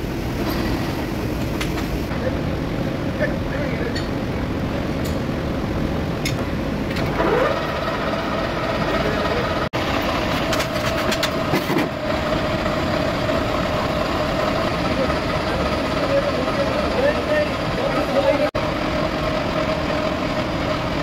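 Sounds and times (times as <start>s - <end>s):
lathe machine hum and whine: 0.0s - 21.0s.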